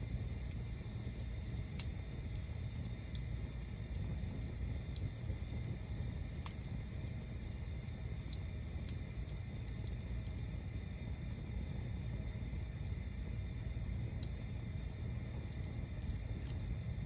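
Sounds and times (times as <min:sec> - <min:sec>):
bonfire crackling and popping: 0:00.0 - 0:17.0
low fire rumble: 0:00.0 - 0:17.0.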